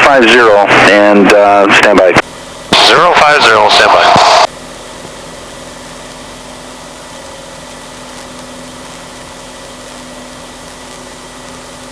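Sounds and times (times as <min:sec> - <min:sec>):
small plane engine droning: 0:02.3 - 0:11.9.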